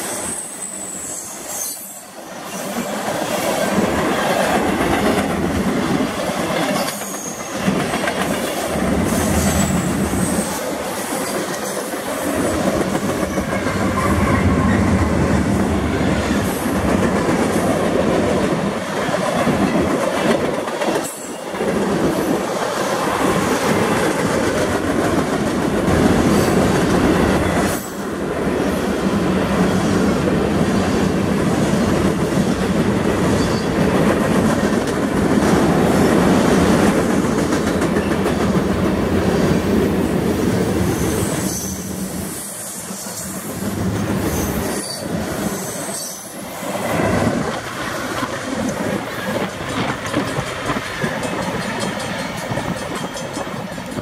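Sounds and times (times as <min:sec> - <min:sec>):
train wheels rumbling on rail: 0:00.0 - 0:54.0
clickety-clack over rail joints: 0:01.6 - 0:41.8, 0:42.8 - 0:54.0.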